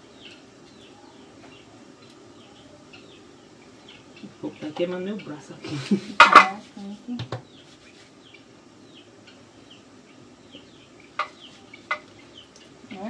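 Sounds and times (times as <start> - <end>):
bird chirping: 0.0 - 5.8, 6.8 - 13.0.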